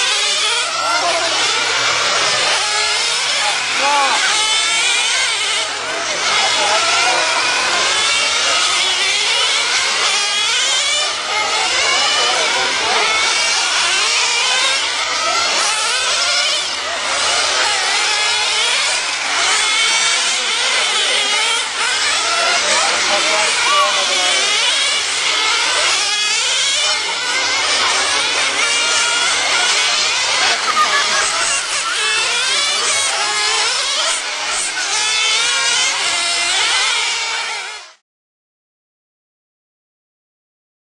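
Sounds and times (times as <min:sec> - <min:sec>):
small racing car engines buzzing: 0:00.0 - 0:38.0.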